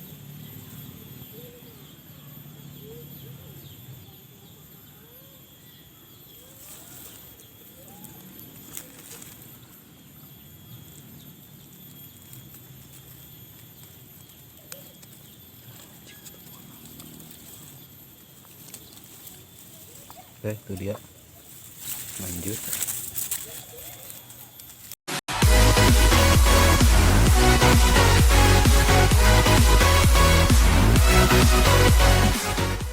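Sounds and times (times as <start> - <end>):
steady high-pitched drone: 0.0 - 20.0, 25.3 - 32.9.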